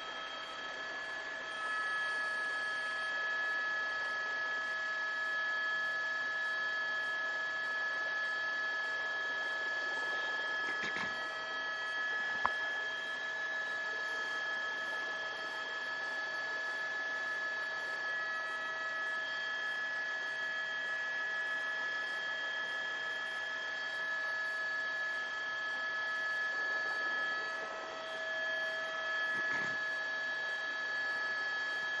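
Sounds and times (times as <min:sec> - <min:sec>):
helicopter turbine whine: 0:00.0 - 0:32.0.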